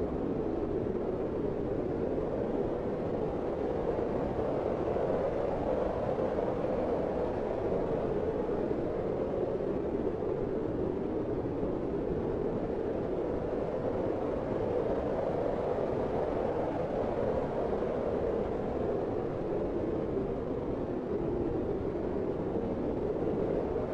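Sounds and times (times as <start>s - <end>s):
blizzard wind blowing: 0.0s - 23.9s.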